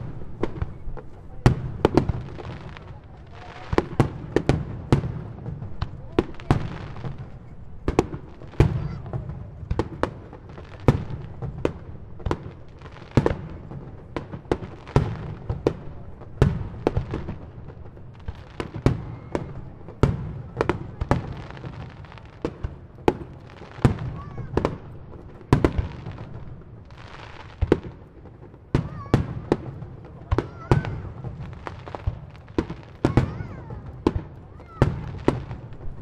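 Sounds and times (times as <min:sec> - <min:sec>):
fireworks bursting with rumble: 0:00.0 - 0:36.0.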